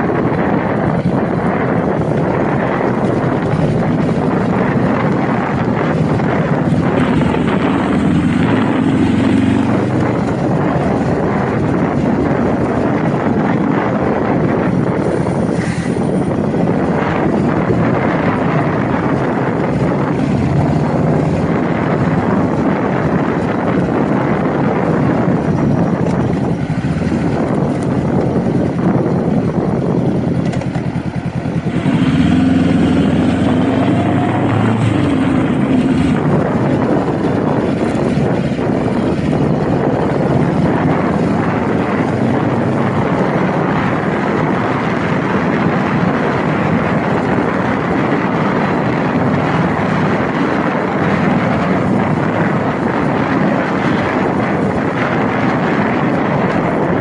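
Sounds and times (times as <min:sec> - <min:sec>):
motorcycle engine running: 0:00.0 - 0:57.0
wind rushing past microphone: 0:00.0 - 0:57.0.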